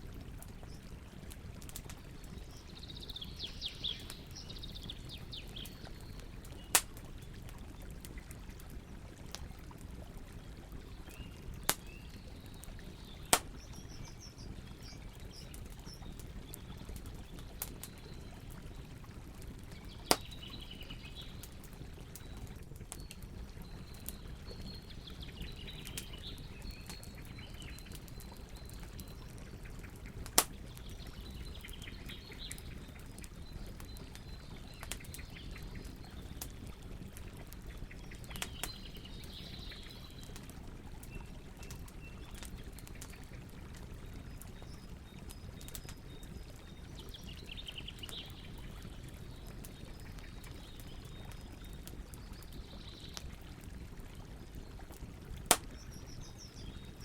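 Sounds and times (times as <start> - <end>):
fire popping: 0.0 - 56.8
campfire crackling: 0.0 - 57.0.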